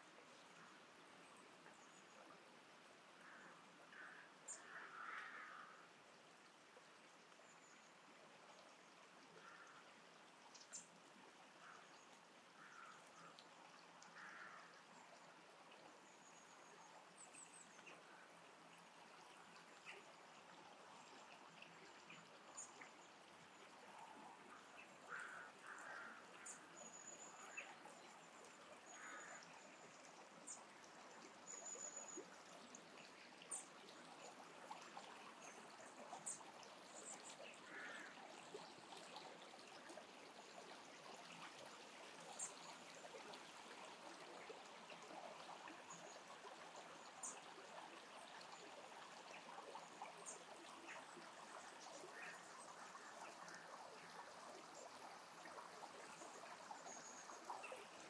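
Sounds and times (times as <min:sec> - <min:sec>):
faint stream trickling: 0:00.0 - 0:58.0.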